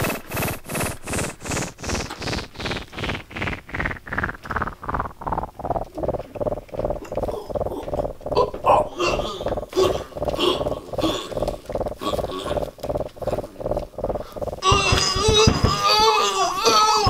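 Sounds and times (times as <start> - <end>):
pulsing electronic sound effect: 0.4 - 15.8.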